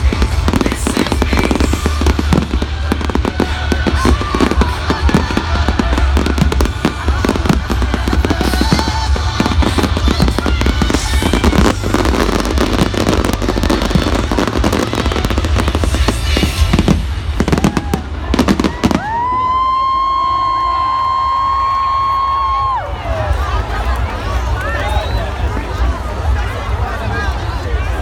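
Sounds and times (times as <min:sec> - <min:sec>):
fireworks crackling and banging: 0:00.0 - 0:22.8.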